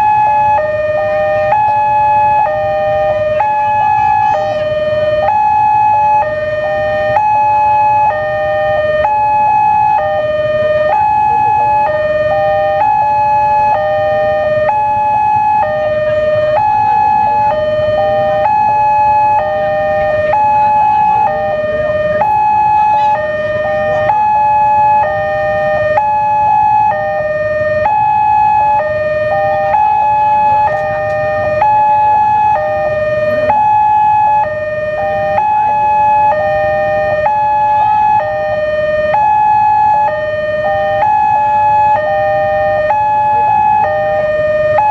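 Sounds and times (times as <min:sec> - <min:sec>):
two-tone level crossing alarm: 0:00.0 - 0:44.9.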